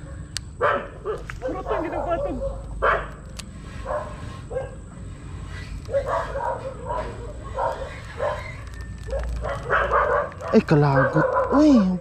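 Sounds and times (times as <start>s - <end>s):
dog barking and yipping: 0.1s - 4.8s, 5.6s - 12.0s.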